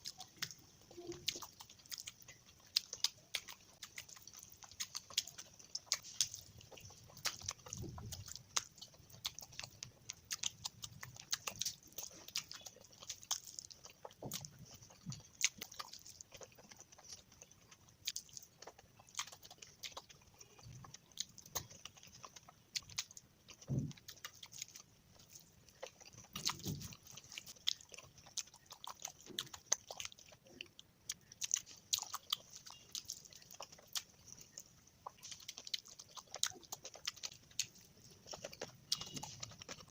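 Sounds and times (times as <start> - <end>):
wet mouth chewing clicks: 0.0 - 39.9.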